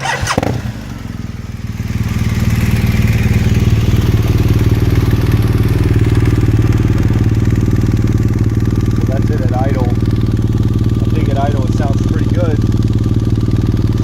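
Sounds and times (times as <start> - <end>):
motorcycle engine starting and idling: 0.0 - 14.0.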